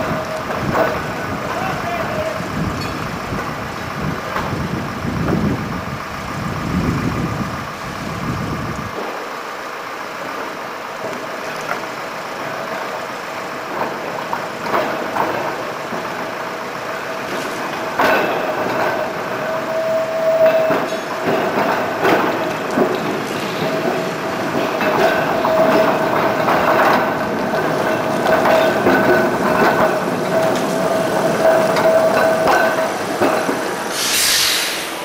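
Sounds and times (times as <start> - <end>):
tram wheels clicking over rail joints: 0.0 - 35.0.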